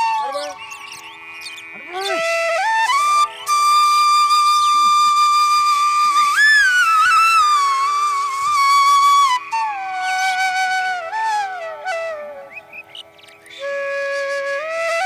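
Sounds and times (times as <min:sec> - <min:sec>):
flute music: 0:00.0 - 0:15.0
low drone: 0:00.0 - 0:15.0.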